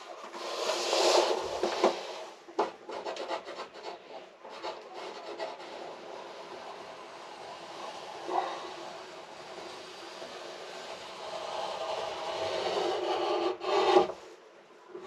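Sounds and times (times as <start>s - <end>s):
plywood scraping against wood: 0.1s - 14.2s.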